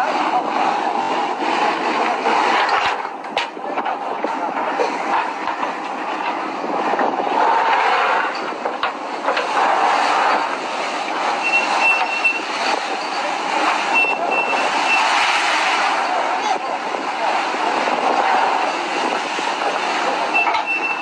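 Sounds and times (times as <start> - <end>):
engine and deck machinery: 0.0 - 21.0.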